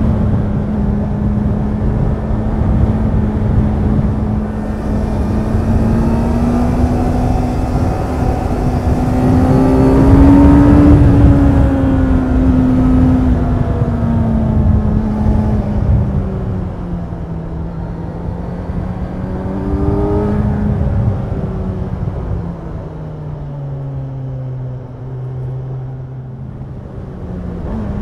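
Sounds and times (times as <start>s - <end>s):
motorcycle engine cruising: 0.0s - 28.0s
wind and road noise: 0.0s - 28.0s.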